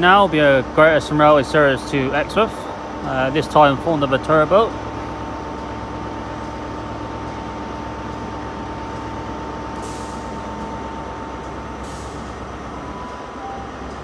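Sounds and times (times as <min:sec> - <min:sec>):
diesel train engine drone: 0:00.0 - 0:14.0.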